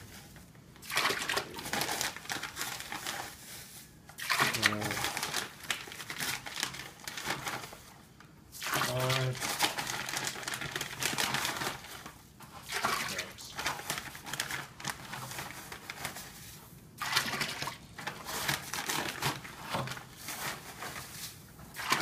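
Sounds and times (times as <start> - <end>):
plastic bag crinkling: 1.0 - 7.9, 8.8 - 22.0.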